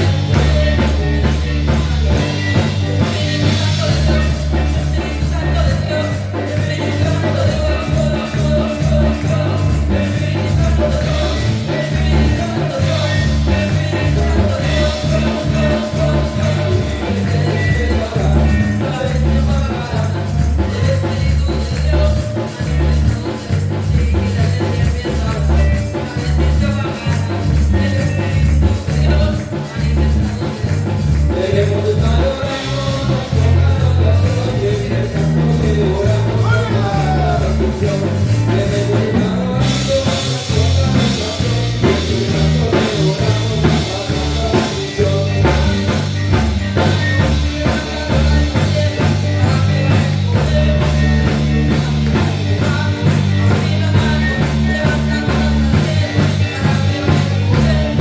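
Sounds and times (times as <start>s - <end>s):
person singing: 0.0s - 58.0s
upbeat band with bass and drums: 0.0s - 58.0s.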